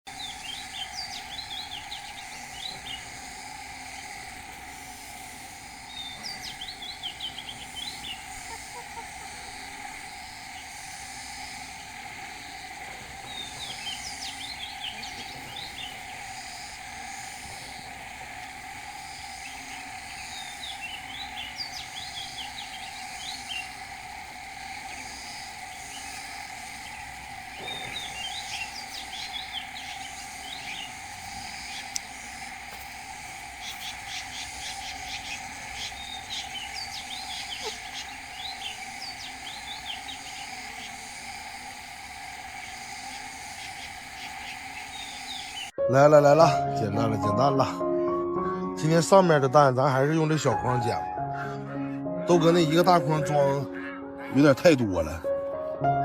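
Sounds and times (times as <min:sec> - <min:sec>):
bird chirping: 0:00.1 - 0:45.8
insect drone: 0:00.1 - 0:56.0.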